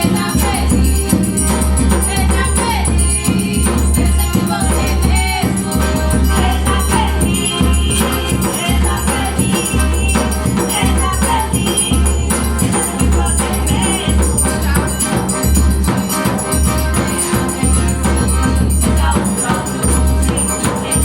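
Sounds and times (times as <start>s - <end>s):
accordion melody: 0.0s - 21.0s.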